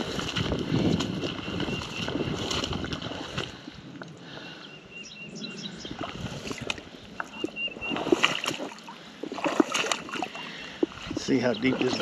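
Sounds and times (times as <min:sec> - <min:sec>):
footsteps through tall grass: 0:00.0 - 0:03.8, 0:05.9 - 0:12.0.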